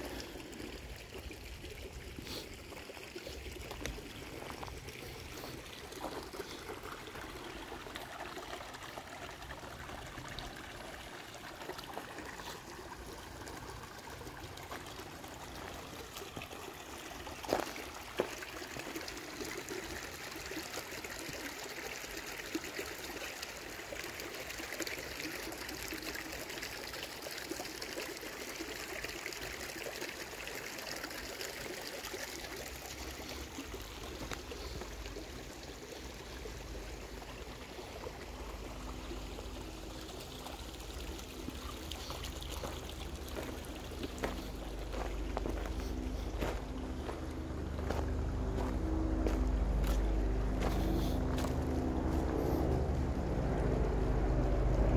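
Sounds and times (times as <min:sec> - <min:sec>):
creek water running over rocks: 0:00.0 - 0:54.9.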